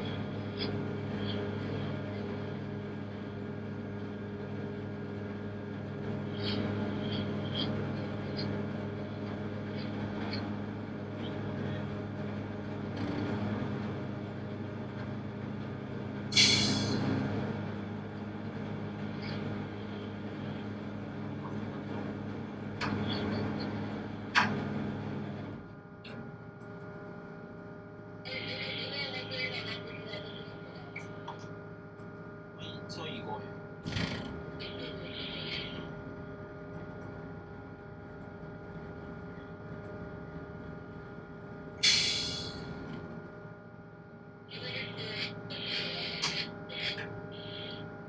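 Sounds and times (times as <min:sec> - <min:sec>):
diesel engine humming: 0:00.0 - 0:48.0.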